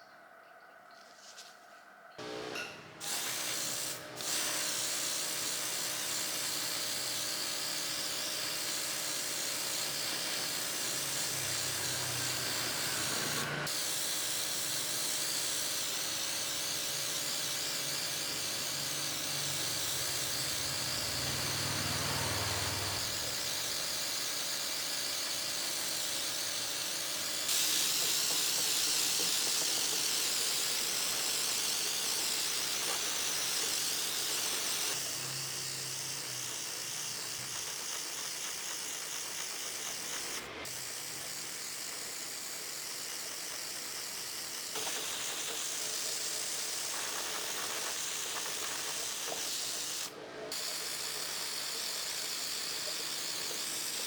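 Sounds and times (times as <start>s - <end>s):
faint motor hum: 2.0s - 54.0s
hissing spray from pressurised tool: 2.5s - 54.0s.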